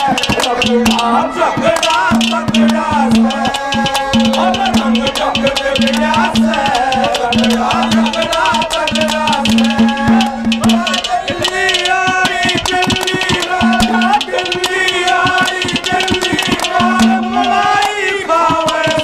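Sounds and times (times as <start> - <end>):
fast drum beats: 0.0 - 19.0
shaking rattle: 0.0 - 19.0
winding melody: 0.0 - 19.0.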